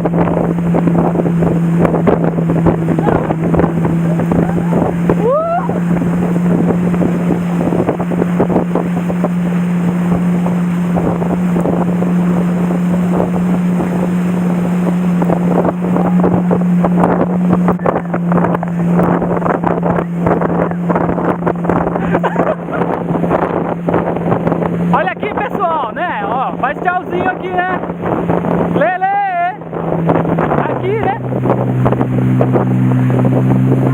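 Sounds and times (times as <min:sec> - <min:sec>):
motorboat engine droning: 0:00.0 - 0:33.9
wind buffeting microphone: 0:00.0 - 0:33.9.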